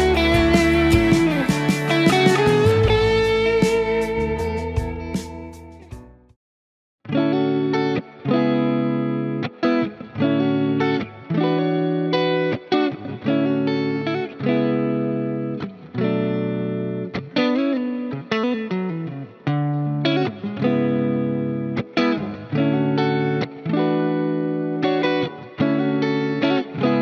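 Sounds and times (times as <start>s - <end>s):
electric guitar chords and notes: 0.0s - 6.4s, 7.0s - 27.0s.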